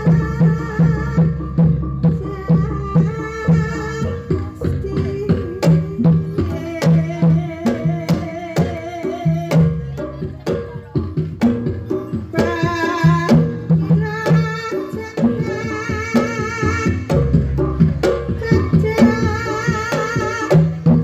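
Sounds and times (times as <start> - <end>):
hand drum strokes: 0.0 - 21.0.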